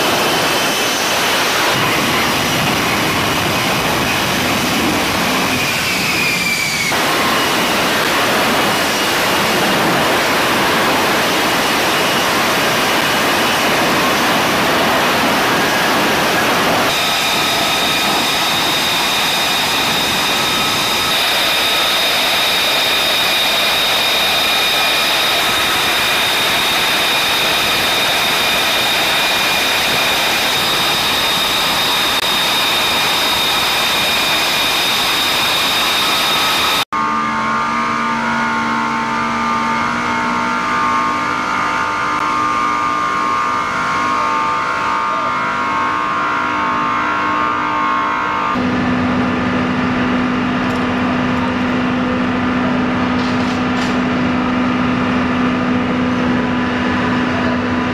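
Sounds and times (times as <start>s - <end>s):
engine drone with fixed tones: 0.0s - 57.9s
jet engine whining: 0.0s - 57.9s.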